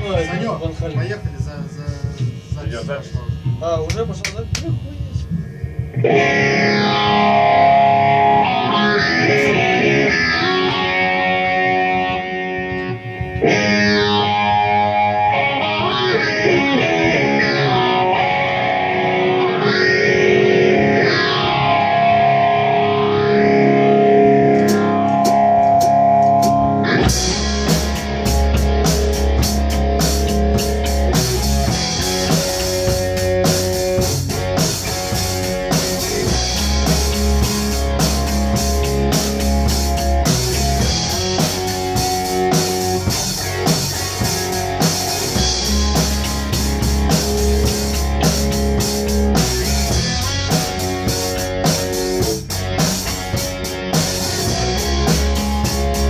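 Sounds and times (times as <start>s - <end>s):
drum kit playing rock: 0.0s - 56.0s
electric guitar with sweeping effect: 0.0s - 56.0s.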